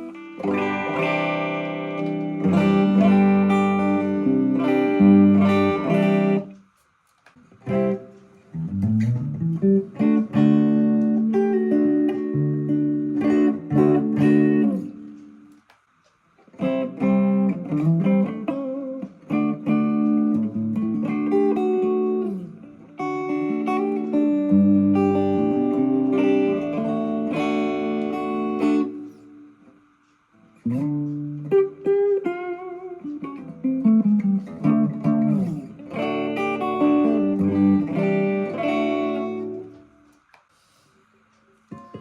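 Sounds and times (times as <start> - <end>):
electric guitar playing: 0.0 - 6.7, 7.4 - 15.7, 16.4 - 29.8, 30.4 - 40.9, 41.7 - 42.0.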